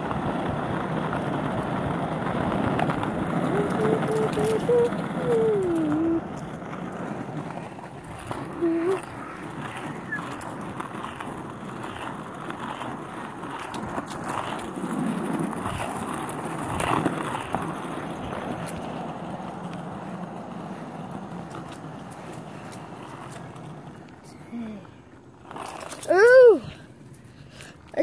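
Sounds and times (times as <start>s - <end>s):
skateboard wheels rolling on asphalt: 0.0s - 28.0s.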